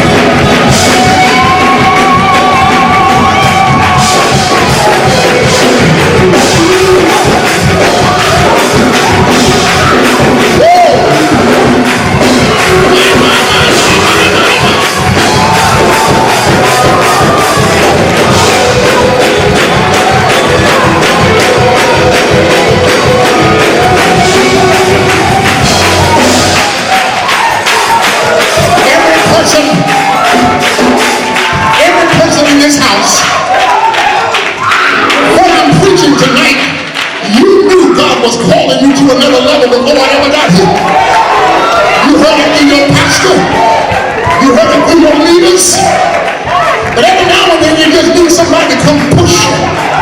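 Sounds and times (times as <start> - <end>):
congregation shouting and singing: 0.0 - 50.0
gospel church music: 0.0 - 50.0.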